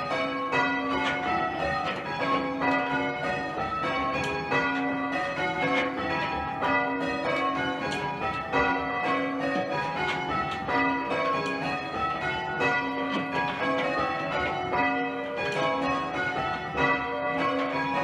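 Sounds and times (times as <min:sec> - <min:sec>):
church bells ringing changes: 0:00.0 - 0:18.0.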